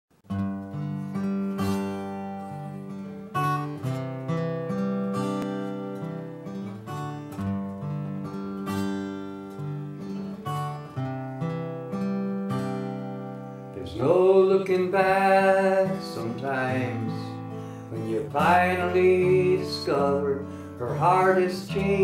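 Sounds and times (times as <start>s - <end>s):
acoustic guitar playing: 0.1s - 22.0s.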